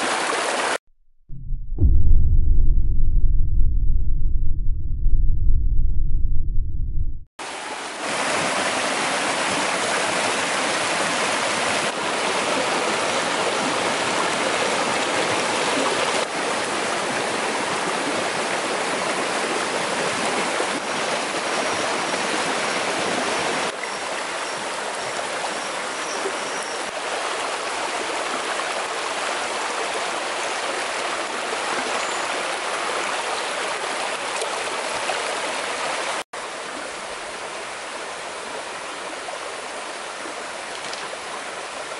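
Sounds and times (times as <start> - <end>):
stream rushing over stones: 0.0 - 0.8, 7.4 - 41.9.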